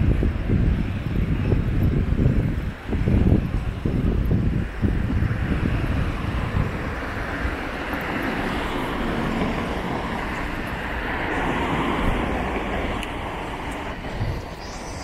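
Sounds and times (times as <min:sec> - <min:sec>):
road traffic noise: 0:00.0 - 0:15.0
wind rumbling on microphone: 0:00.0 - 0:15.0.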